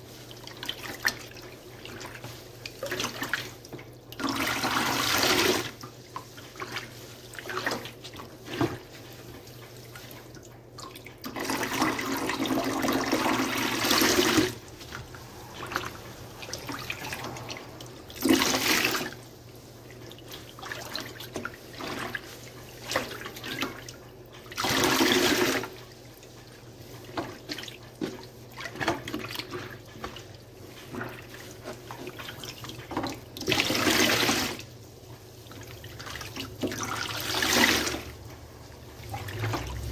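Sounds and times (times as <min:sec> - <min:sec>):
water gushing from sponge: 0:00.0 - 0:39.9
wet squishing of sponge: 0:00.0 - 0:39.9.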